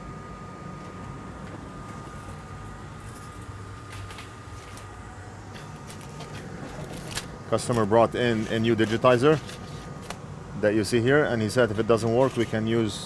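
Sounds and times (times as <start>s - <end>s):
fan-like equipment hum: 0.0s - 13.0s.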